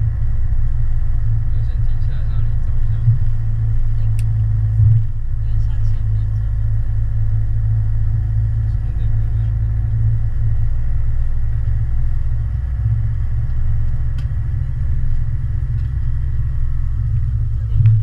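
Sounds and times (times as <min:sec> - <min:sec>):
faint high-pitched hum: 0:00.0 - 0:18.0
low engine rumble: 0:00.0 - 0:18.0.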